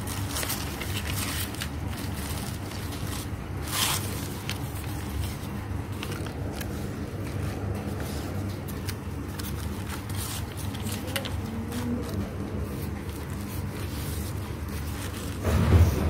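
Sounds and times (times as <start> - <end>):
book pages turning: 0.0 - 16.0.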